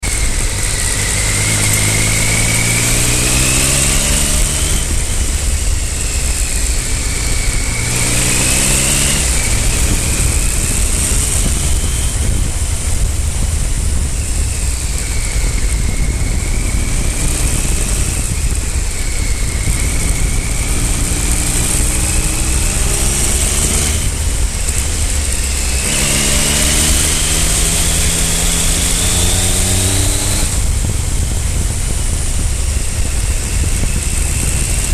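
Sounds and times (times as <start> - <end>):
motorcycle engine revving: 0.0 - 34.9
wind rush on microphone: 0.0 - 34.9.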